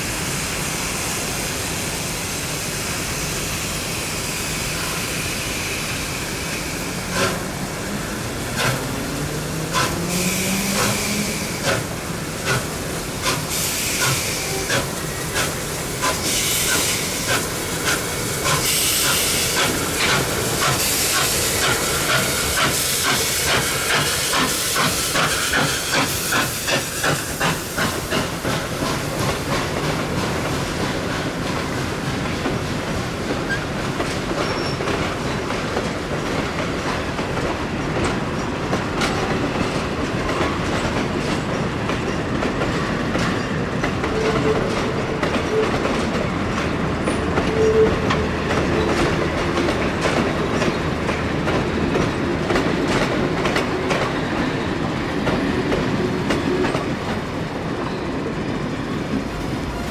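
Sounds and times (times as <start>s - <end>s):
steam locomotive exhaust beats: 0.0s - 57.8s
train wheels clattering over rail joints: 6.4s - 59.9s.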